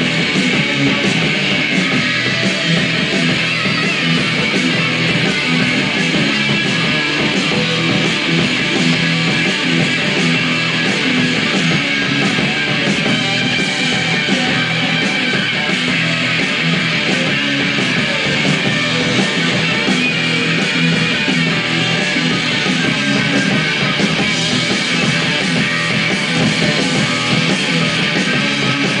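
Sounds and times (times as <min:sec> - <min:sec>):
bass guitar: 0:00.0 - 0:29.0
drums: 0:00.0 - 0:29.0
electric guitars: 0:00.0 - 0:29.0.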